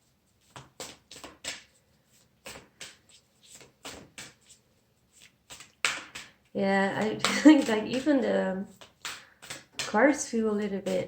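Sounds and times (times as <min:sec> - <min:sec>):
cards being shuffled: 0:00.3 - 0:11.0.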